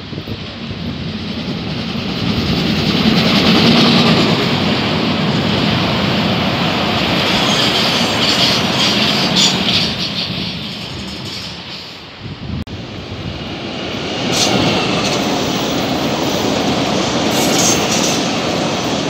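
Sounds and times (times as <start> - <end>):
train passing over steel bridge: 0.0 - 19.0.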